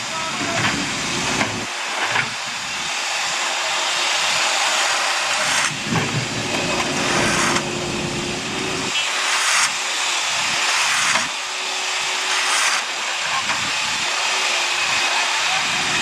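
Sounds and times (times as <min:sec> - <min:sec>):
road-works machinery hissing: 0:00.0 - 0:16.0.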